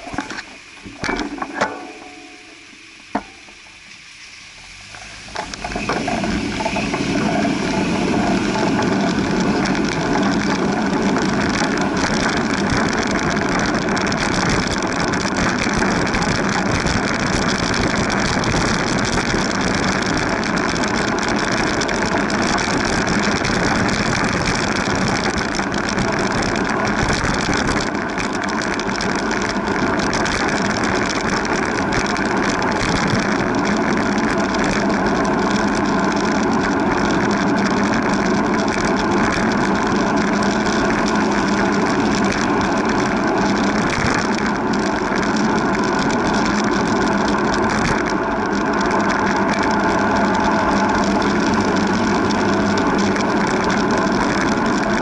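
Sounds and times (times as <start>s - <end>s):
bicycle ticking and rattling: 0.0s - 55.0s
wind and road noise on microphone: 0.0s - 55.0s.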